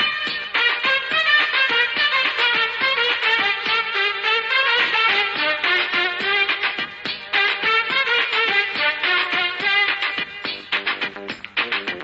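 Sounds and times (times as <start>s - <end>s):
film dance-song music: 0.0s - 12.0s.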